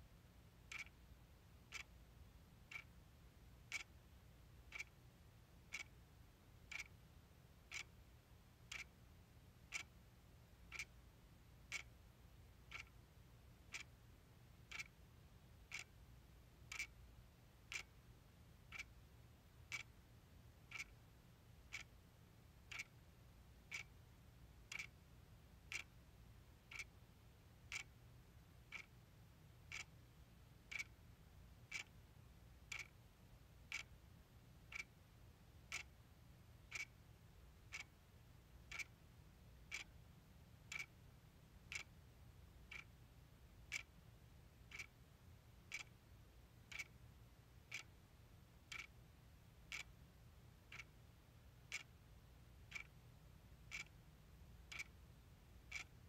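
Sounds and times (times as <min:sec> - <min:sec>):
faint low hum: 0:00.0 - 0:56.0
clock ticking: 0:00.6 - 0:56.0.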